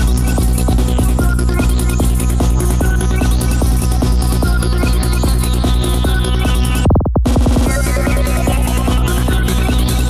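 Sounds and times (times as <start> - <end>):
electronic trance music: 0.0 - 10.0.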